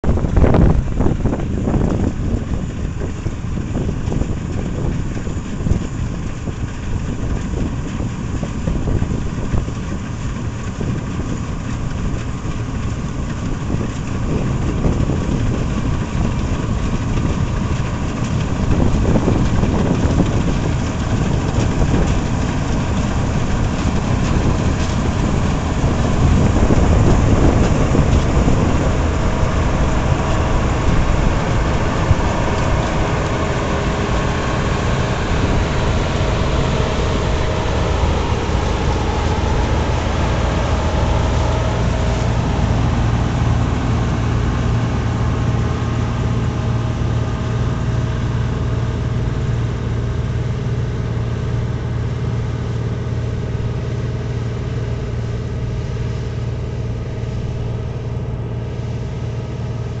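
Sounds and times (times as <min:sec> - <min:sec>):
combine harvester engine and threshing: 0:00.0 - 1:00.0.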